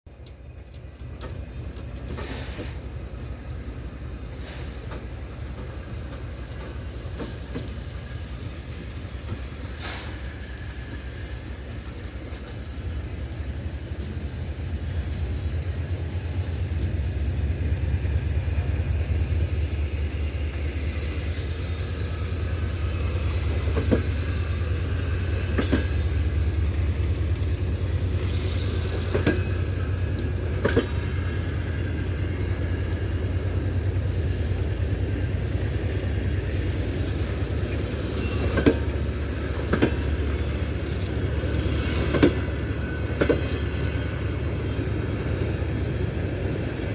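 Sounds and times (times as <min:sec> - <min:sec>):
train rumbling: 0:00.1 - 0:46.9
wheels clacking over rail joints: 0:00.1 - 0:46.9.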